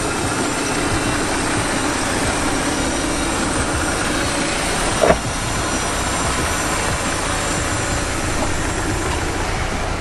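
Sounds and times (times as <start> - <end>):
steady rushing noise: 0.0 - 10.0
vehicle engine running: 0.0 - 10.0.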